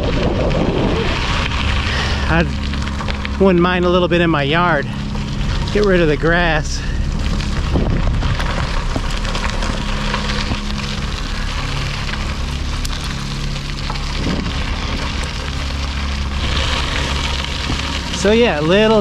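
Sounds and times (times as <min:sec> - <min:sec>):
bike tyres crunching on gravel: 0:00.0 - 0:19.0.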